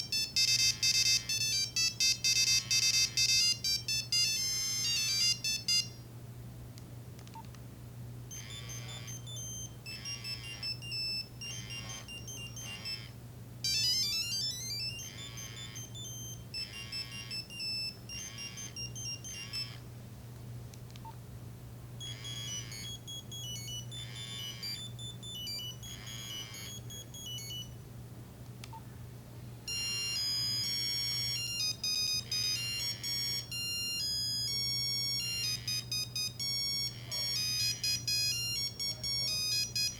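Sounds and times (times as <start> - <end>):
mobile phone ringtone beeping: 0.0 - 6.0, 8.3 - 19.8, 22.0 - 27.8, 29.7 - 39.9
steady low hum: 0.0 - 39.9.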